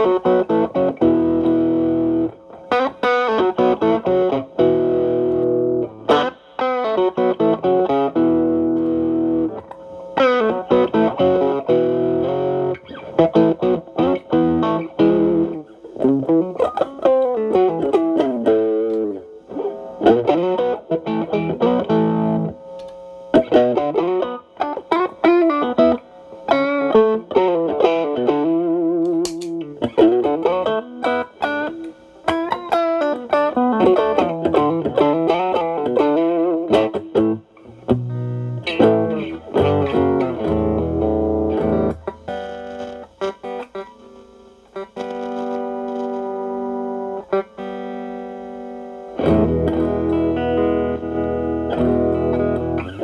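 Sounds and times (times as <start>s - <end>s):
overdriven electric guitar: 0.0s - 53.0s.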